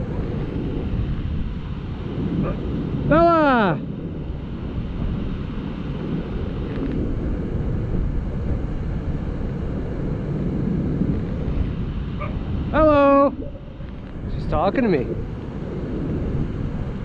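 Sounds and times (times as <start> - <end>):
low rushing outdoor noise: 0.0 - 17.0.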